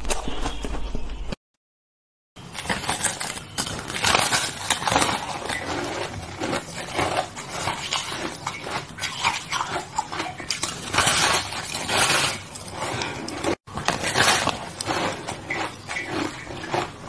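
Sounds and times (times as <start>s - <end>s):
shaved ice crunching: 2.4s - 17.0s.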